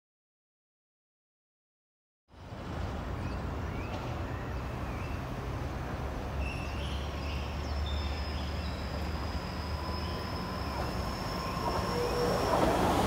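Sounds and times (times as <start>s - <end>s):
electric train rumbling: 2.4s - 13.0s.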